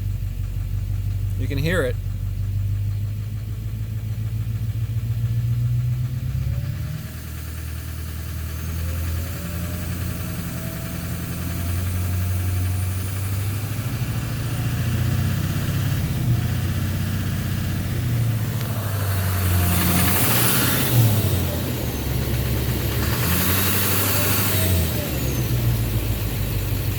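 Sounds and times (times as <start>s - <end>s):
diesel engine running: 0.0s - 26.9s
turbo whine: 0.0s - 26.9s.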